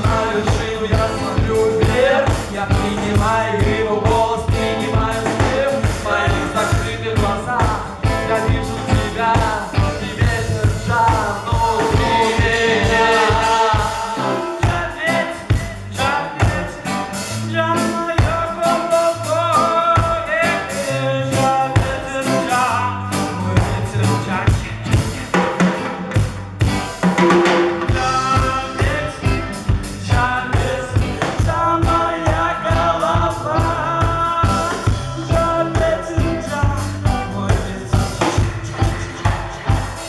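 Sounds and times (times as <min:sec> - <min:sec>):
instrumental rock-reggae band music: 0:00.0 - 0:40.0.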